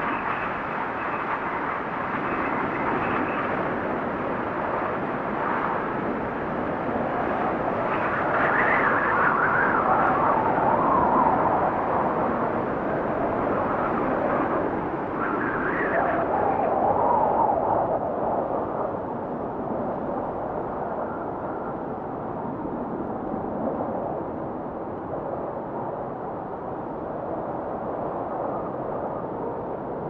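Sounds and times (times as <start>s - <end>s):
hollow wind whistling: 0.0s - 30.0s
wind blowing in gusts: 0.0s - 30.0s.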